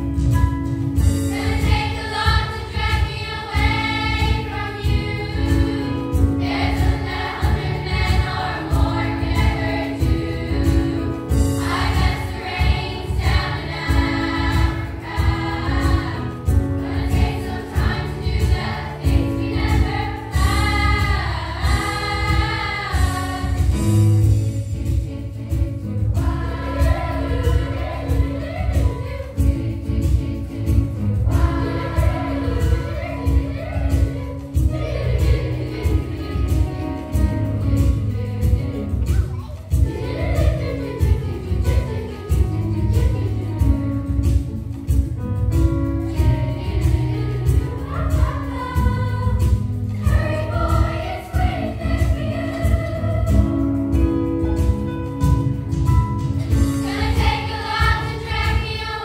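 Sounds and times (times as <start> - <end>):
keyboard accompaniment: 0.0 - 59.0
children's choir singing: 1.2 - 43.8, 46.0 - 54.7, 56.4 - 59.0.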